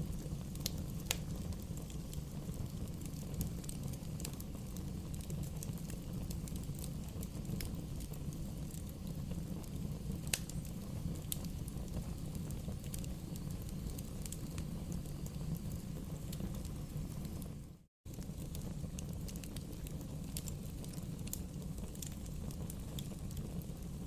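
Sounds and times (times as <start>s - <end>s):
bonfire crackling and popping: 0.0s - 24.0s
bonfire low rumble: 0.0s - 24.0s.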